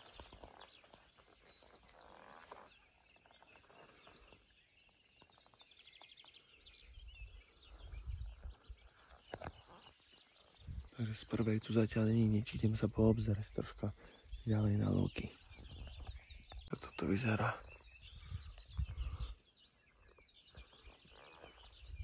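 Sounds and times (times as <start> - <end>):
songbirds calling and trilling: 0.0 - 22.0.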